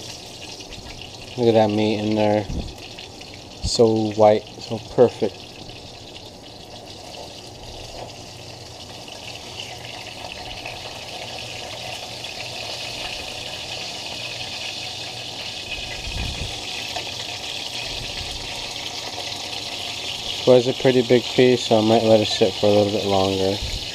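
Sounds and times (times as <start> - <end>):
fish frying in hot oil: 0.0 - 23.9.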